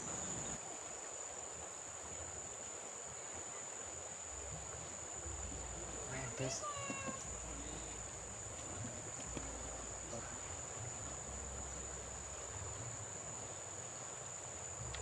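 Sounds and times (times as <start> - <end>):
hiss of moving floodwater: 0.0 - 15.0
insects high-pitched drone: 0.0 - 15.0.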